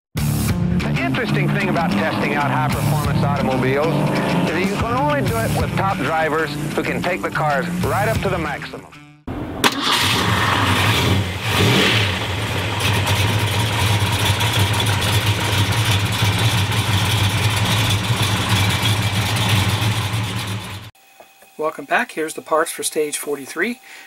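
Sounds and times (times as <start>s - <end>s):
car engine rumbling: 0.8s - 8.6s, 9.3s - 20.9s.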